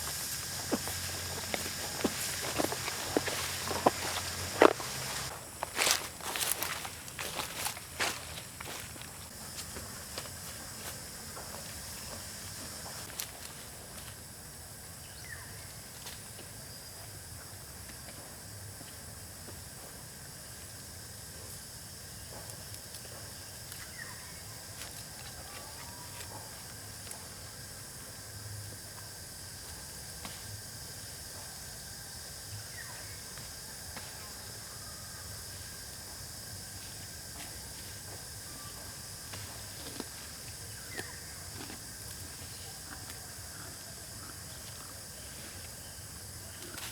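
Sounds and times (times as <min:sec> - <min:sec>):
high-pitched drone of insects: 0:00.0 - 0:46.9.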